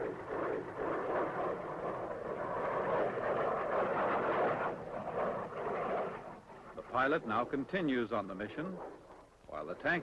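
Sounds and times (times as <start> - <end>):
jet engine rushing: 0.0 - 10.0.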